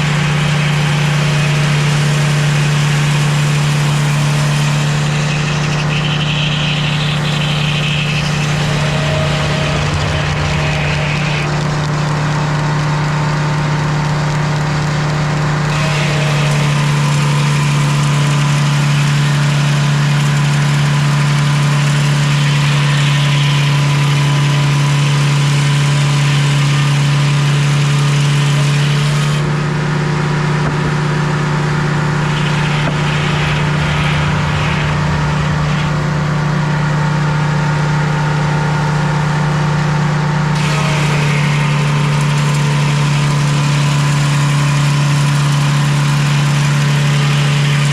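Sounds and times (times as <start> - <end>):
sawmill engine running: 0.0 - 47.9.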